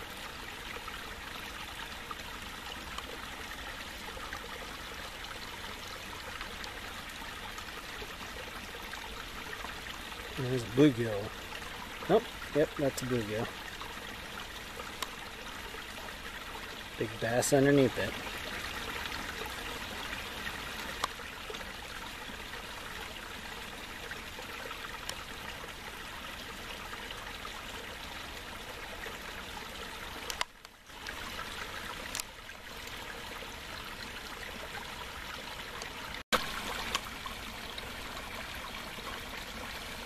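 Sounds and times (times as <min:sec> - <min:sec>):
water trickling in a pond: 0:00.0 - 0:40.0.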